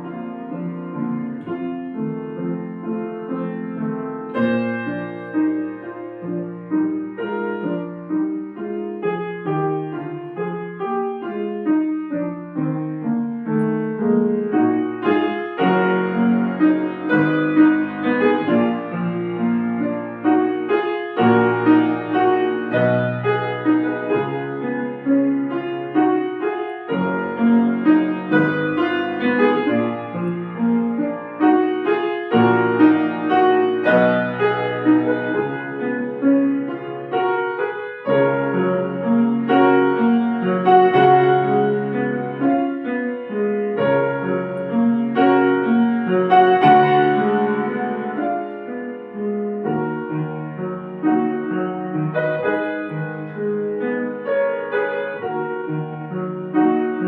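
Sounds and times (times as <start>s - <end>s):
solo piano classical piece: 0.0s - 57.0s.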